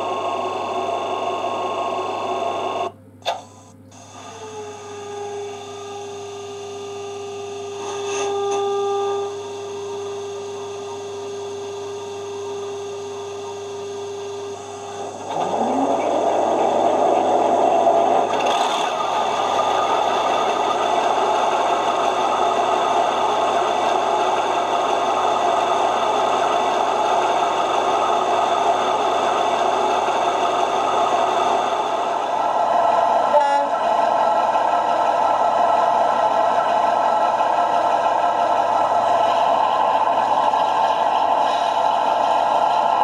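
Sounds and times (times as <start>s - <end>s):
model locomotive engine sound: 0.0s - 43.0s.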